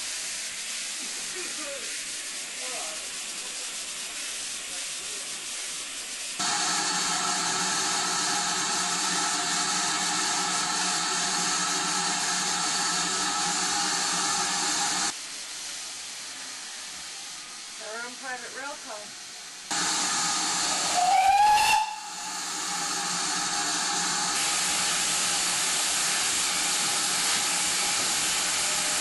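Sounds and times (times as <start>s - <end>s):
steam hissing from locomotive: 0.0s - 29.0s.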